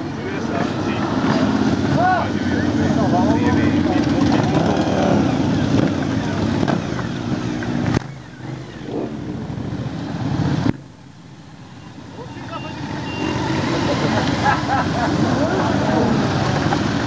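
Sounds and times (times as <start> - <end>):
motorcycles riding past: 0.0 - 10.7, 11.6 - 17.0.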